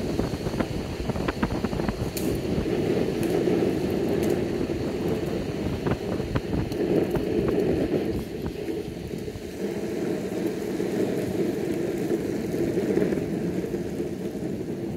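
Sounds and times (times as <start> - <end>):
wheels rolling over asphalt: 0.0 - 14.9
wind on microphone: 0.0 - 14.9.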